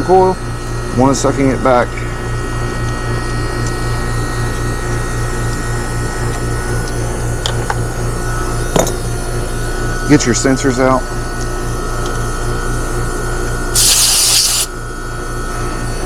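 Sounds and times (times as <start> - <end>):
heat pump humming: 0.0 - 16.0.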